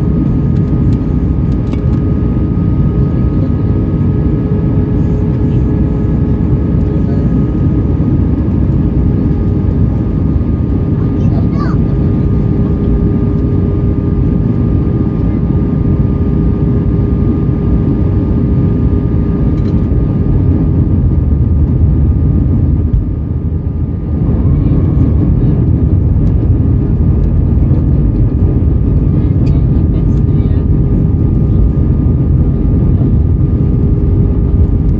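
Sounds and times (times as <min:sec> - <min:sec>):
airflow and jet engine rumble: 0:00.0 - 0:34.9
steady cabin hum: 0:00.0 - 0:34.9.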